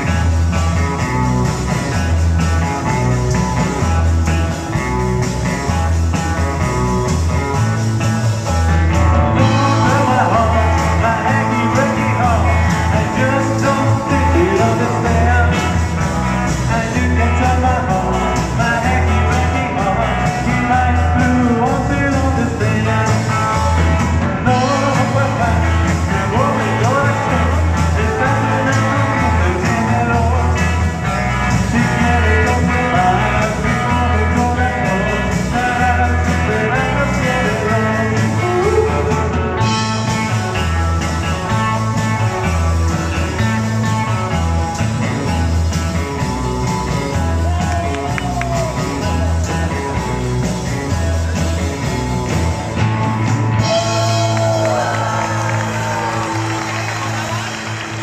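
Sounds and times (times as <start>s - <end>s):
lead singer: 0.0s - 58.0s
live country-rock band: 0.0s - 58.0s.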